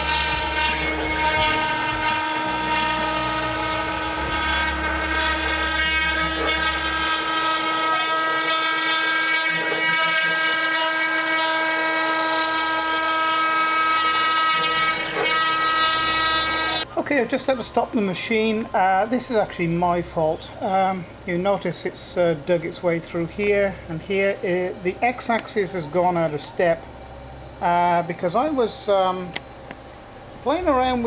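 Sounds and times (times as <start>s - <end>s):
cnc router whine: 0.0s - 31.0s
low hum: 0.0s - 31.0s.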